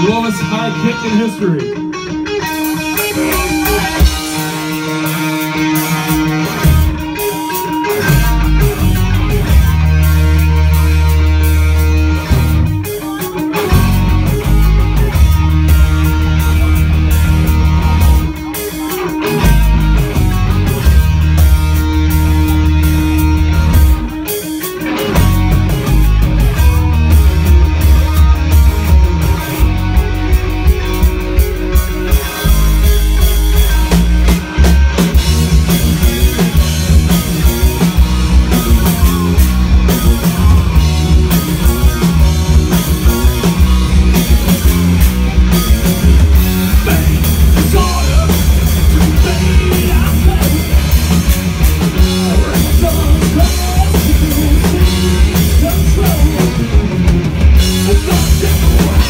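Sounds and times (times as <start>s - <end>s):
electric bass: 0.0s - 59.0s
electric guitar: 0.0s - 59.0s
drum kit beat: 1.8s - 59.0s.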